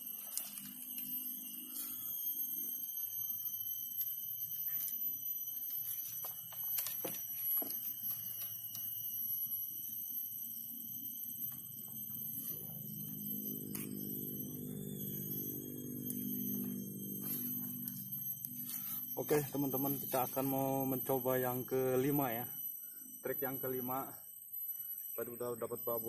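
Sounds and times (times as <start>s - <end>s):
high-pitched alarm-like ringing: 0.0s - 26.0s.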